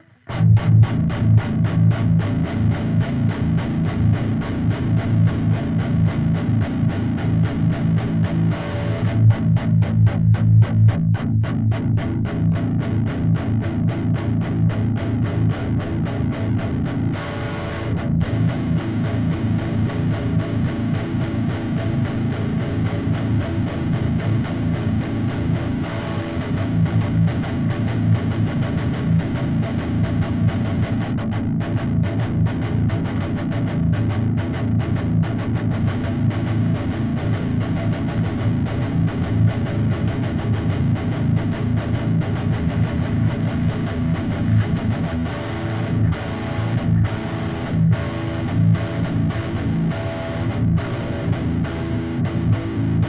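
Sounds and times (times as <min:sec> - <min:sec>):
distorted electric guitar riffs: 0:00.0 - 0:53.0.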